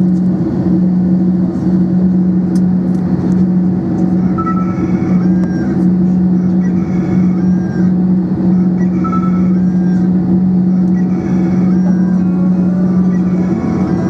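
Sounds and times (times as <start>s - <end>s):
jet engines idling in cabin: 0.0s - 14.0s.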